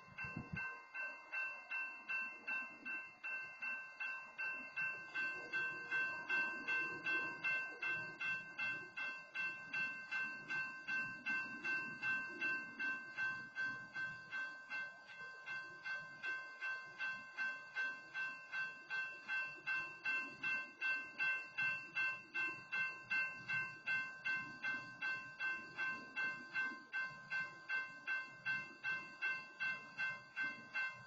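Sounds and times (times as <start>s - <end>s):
crossing warning bell ringing: 0.0s - 31.0s.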